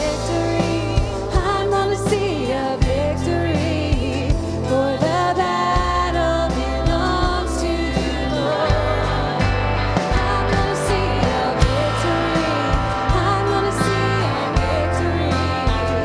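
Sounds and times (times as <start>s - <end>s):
bass: 0.0s - 16.0s
person singing: 0.0s - 16.0s
worship song played by band: 0.0s - 16.0s.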